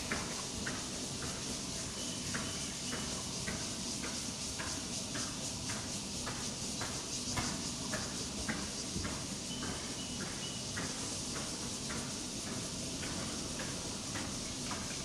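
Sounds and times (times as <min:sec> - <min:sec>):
constant high hiss: 0:00.0 - 0:15.0.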